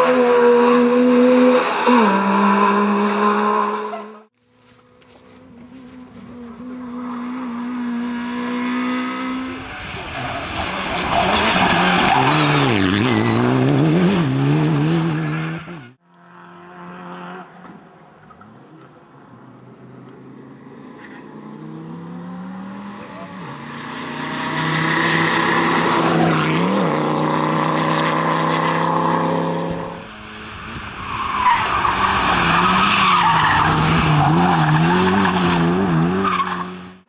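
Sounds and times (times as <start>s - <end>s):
rally car engine revving: 5.1s - 37.0s.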